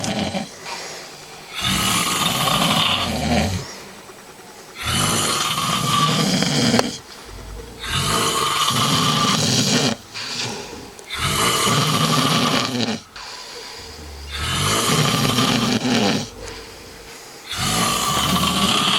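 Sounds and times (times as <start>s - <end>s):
person snoring heavily: 0.0s - 3.8s, 4.8s - 18.9s
quiet breathing: 0.0s - 18.9s.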